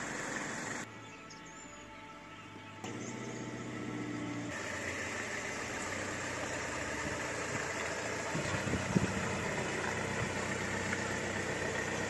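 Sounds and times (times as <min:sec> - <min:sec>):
van engine running: 0:00.0 - 0:00.8, 0:02.8 - 0:12.0.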